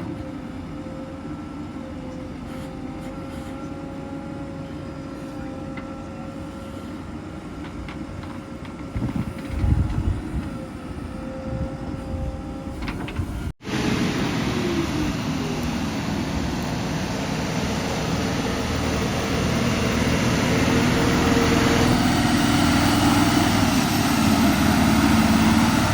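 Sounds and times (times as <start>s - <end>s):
constant machinery whine: 0.0s - 25.9s
heavy diesel machinery running: 0.0s - 25.9s.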